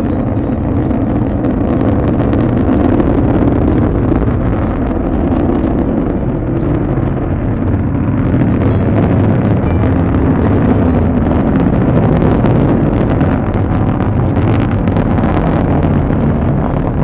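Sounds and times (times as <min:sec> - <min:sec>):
distant rocket engine rumble: 0:00.0 - 0:17.0.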